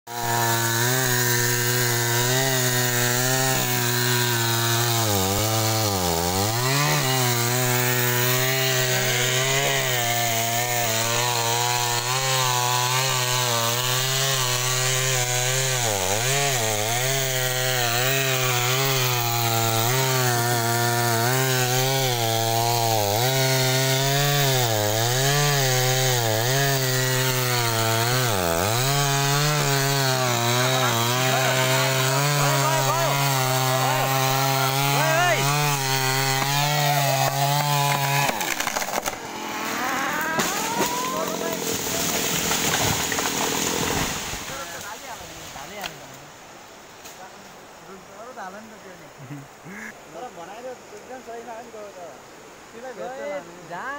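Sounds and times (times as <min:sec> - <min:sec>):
chainsaw cutting wood: 0:00.1 - 0:46.0.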